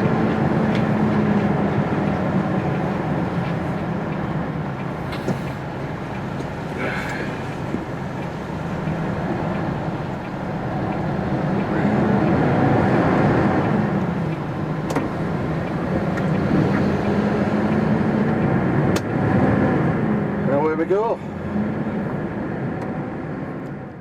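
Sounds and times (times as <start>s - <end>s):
lorry diesel engine: 0.0s - 24.0s.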